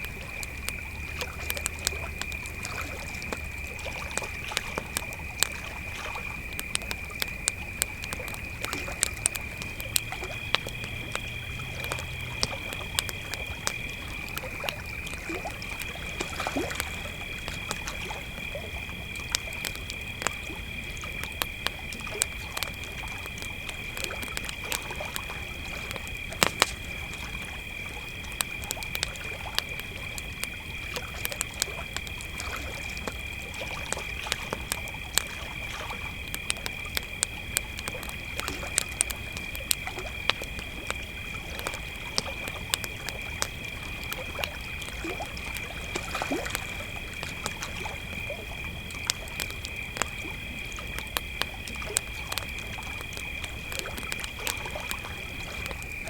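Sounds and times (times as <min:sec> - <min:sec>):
campfire crackling and popping: 0:00.0 - 0:56.0
crickets trilling: 0:00.0 - 0:56.0.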